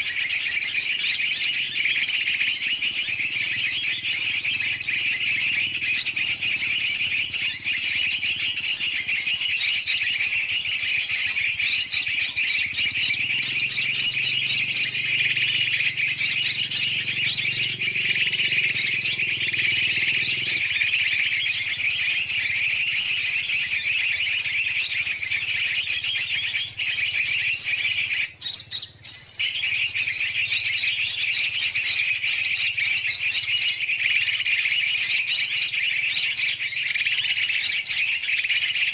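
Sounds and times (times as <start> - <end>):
birds chirping and chattering: 0.0 - 38.9.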